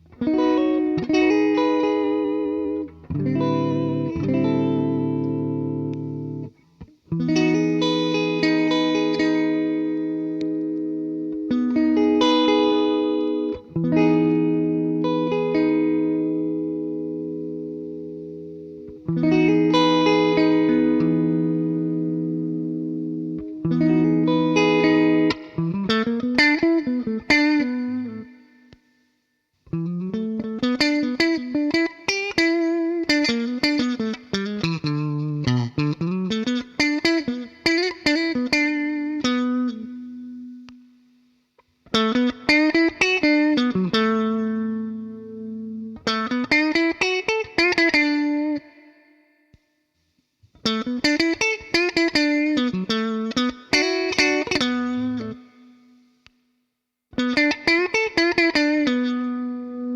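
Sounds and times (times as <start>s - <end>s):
overdriven electric guitar lead: 0.0s - 28.7s, 29.6s - 41.0s, 41.8s - 49.0s, 50.6s - 56.0s, 57.1s - 59.9s.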